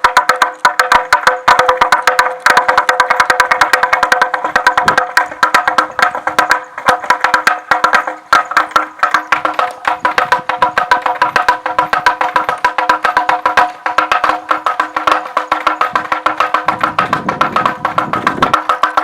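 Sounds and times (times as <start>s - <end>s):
wooden rattle clacking: 0.0s - 19.0s.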